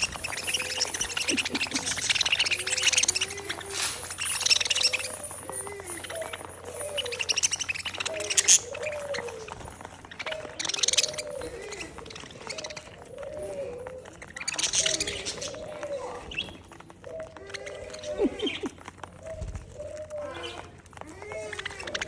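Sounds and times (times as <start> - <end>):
lower bird calls: 0.0 - 22.0
small birds chirping: 0.0 - 22.0.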